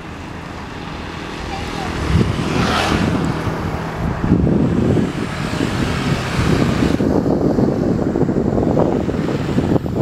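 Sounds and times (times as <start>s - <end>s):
diesel locomotive engine running: 0.0s - 10.0s.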